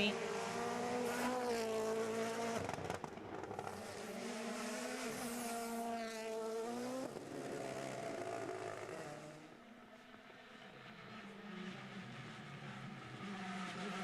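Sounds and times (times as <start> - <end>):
rally car engine revving: 0.0 - 9.6, 10.8 - 14.0.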